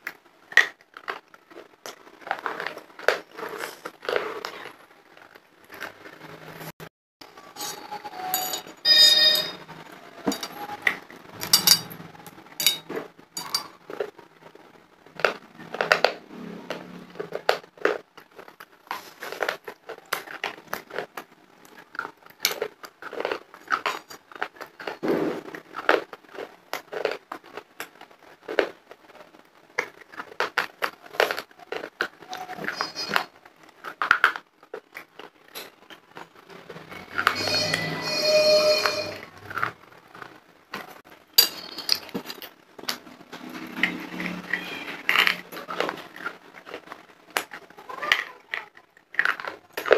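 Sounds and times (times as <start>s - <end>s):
crunching and chewing candy: 0.0s - 6.6s, 12.0s - 38.2s, 42.0s - 49.9s.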